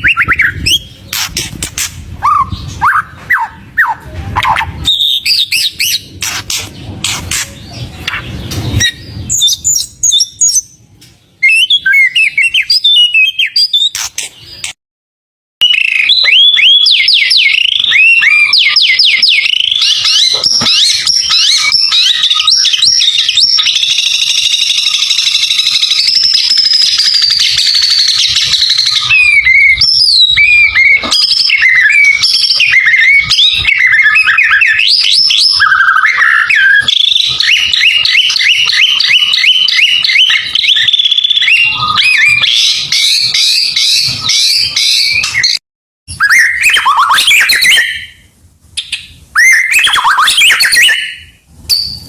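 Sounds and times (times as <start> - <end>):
bird singing whistles and trills: 0.0 - 10.8, 11.4 - 14.8, 15.6 - 52.0.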